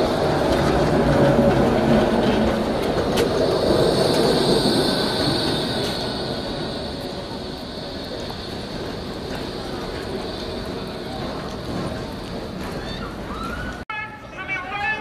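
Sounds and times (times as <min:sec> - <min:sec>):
rumble of tram wheels: 0:00.0 - 0:13.8
tram wheel squeal: 0:00.0 - 0:13.8.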